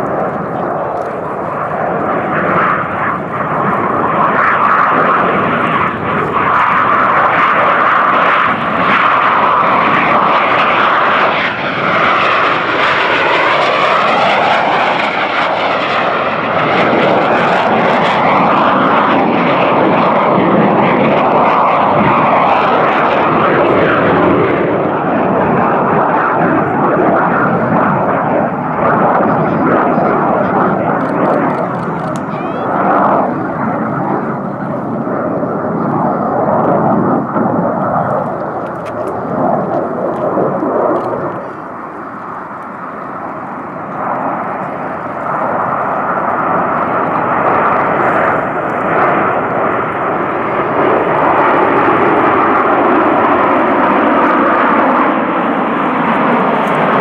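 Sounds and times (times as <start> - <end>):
jet aircraft flying past low: 0.0 - 57.0.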